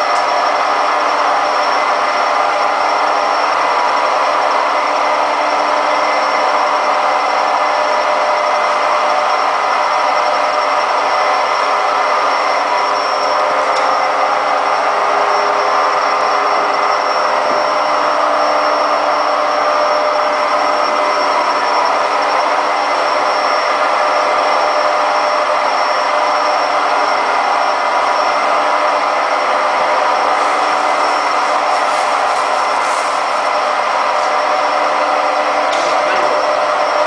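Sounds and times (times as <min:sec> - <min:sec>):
constant whining tones: 0:00.0 - 0:37.0
washing machine spinning: 0:00.0 - 0:37.0.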